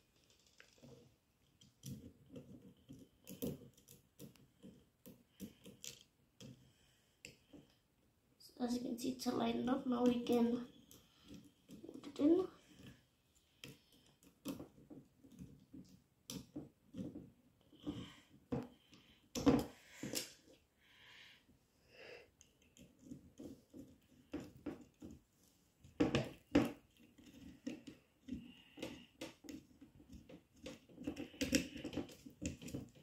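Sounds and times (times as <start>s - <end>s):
plastic parts clicking and knocking: 0.0s - 7.9s, 9.6s - 20.6s, 22.3s - 33.0s.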